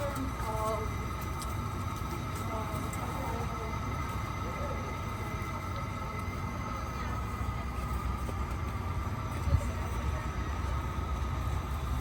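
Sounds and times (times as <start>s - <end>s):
city traffic rumble: 0.0s - 12.0s
faint steady whine: 0.0s - 12.0s.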